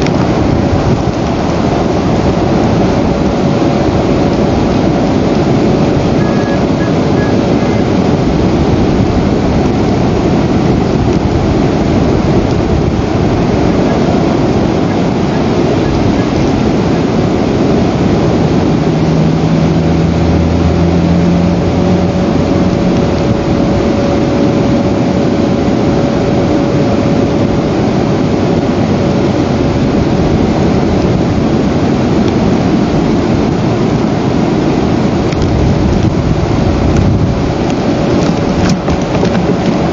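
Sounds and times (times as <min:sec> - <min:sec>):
faint steady whine: 0:00.0 - 0:39.9
loud rushing noise: 0:00.0 - 0:39.9
low hum: 0:00.0 - 0:39.9.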